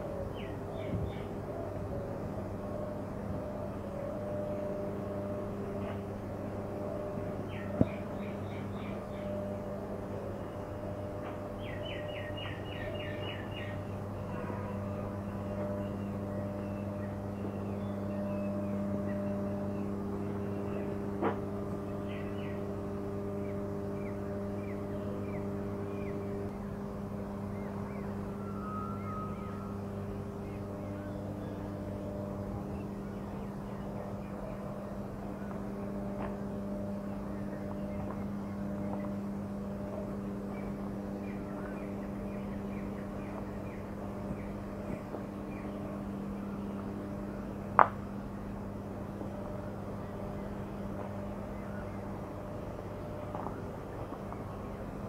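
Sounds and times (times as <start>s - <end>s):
belt conveyor mechanical hum: 0.0s - 55.0s.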